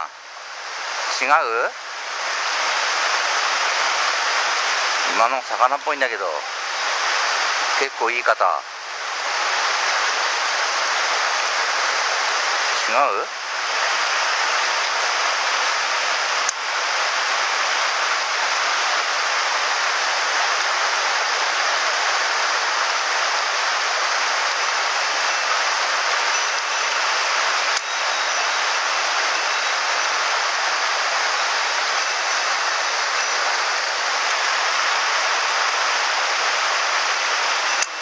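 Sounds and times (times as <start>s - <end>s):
stream rushing over cobbles: 0.0s - 38.0s.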